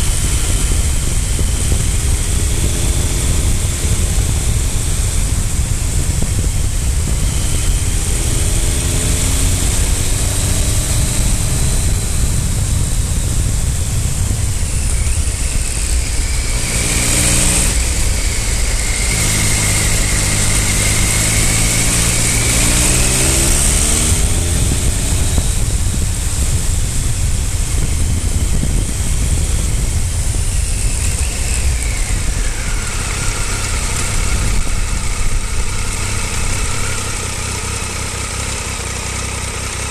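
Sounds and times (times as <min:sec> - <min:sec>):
wind rush on microphone: 0:00.0 - 0:38.0
motorcycle engine accelerating: 0:00.0 - 0:39.9.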